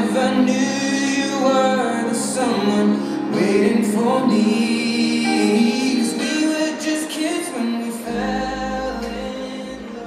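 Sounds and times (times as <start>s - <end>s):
pop music with sung vocal: 0.0s - 10.0s.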